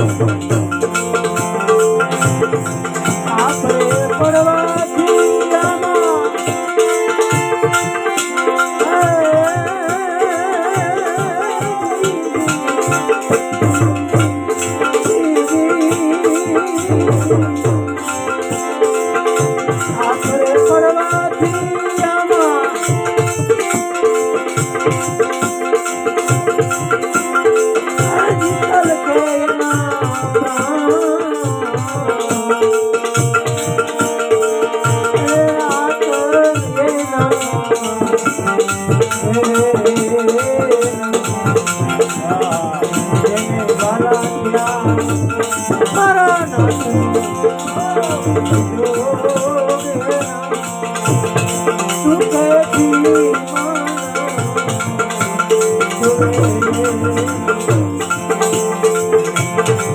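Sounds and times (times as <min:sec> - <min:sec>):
wavering melody line: 0:00.0 - 0:59.9.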